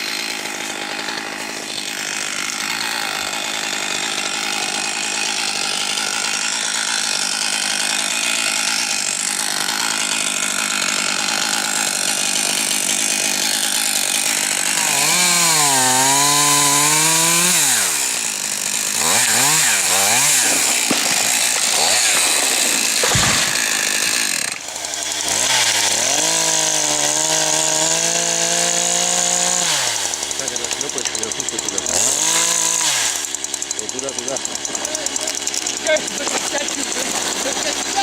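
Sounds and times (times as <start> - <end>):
chainsaw running: 0.0 - 38.0
nearer chainsaw revving: 0.0 - 38.0.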